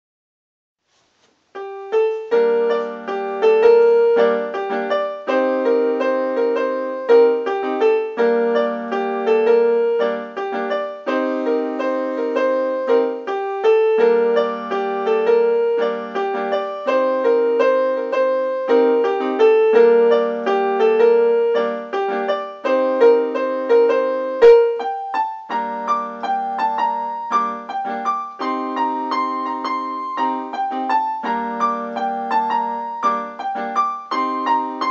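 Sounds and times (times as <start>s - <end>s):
keyboard playing piano riff: 1.5s - 34.9s.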